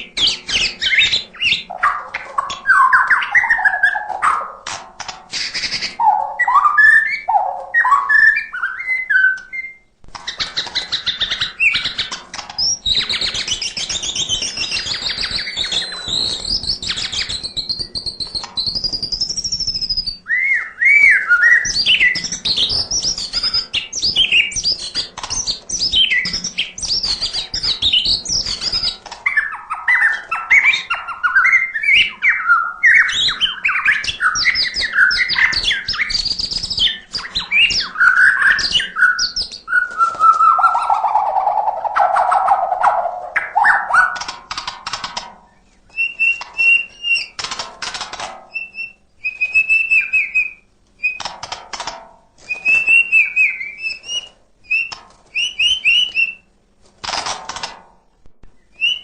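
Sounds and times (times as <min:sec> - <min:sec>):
songbird singing whistles and trills: 0:00.0 - 0:04.6, 0:05.4 - 0:44.3, 0:45.5 - 0:47.4, 0:48.5 - 0:51.3, 0:52.4 - 0:56.5, 0:58.6 - 0:59.0.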